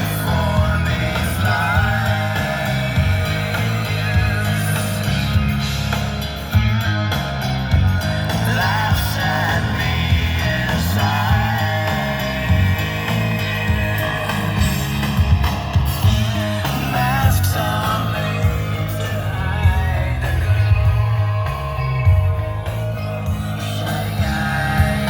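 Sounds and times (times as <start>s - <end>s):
rock song over speakers: 0.0s - 25.0s.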